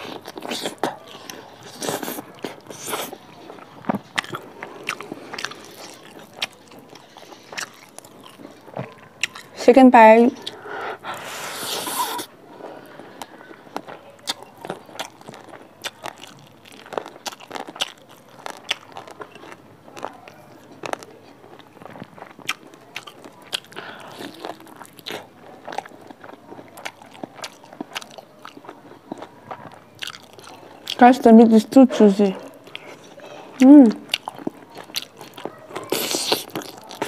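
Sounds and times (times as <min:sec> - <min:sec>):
wet chewing with lip smacks: 0:00.0 - 0:31.2, 0:32.0 - 0:37.0.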